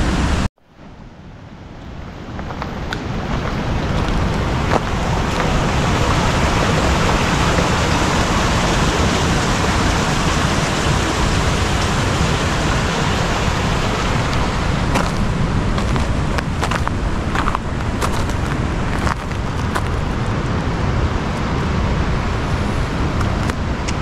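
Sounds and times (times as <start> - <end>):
loud rushing noise with rumble: 0.0 - 24.0.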